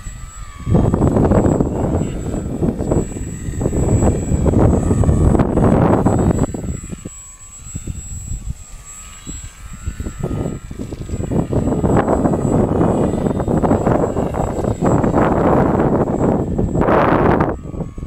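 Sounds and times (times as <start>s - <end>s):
model airplane motor buzzing: 0.0s - 18.0s
wind buffeting microphone: 0.0s - 18.0s.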